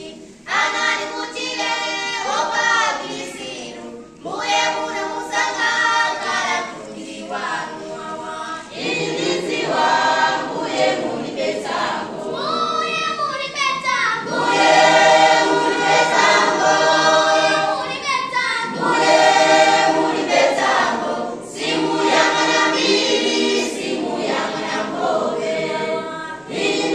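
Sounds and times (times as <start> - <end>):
choir of young people singing: 0.0 - 26.9.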